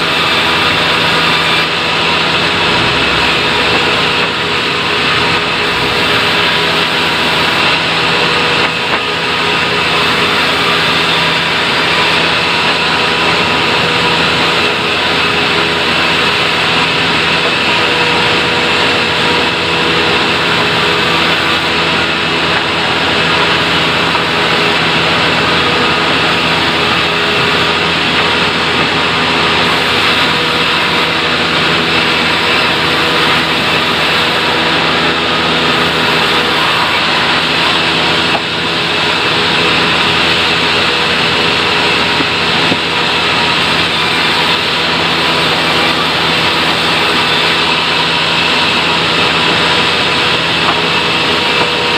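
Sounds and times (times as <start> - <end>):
sawmill saw running loudly: 0.0 - 51.9.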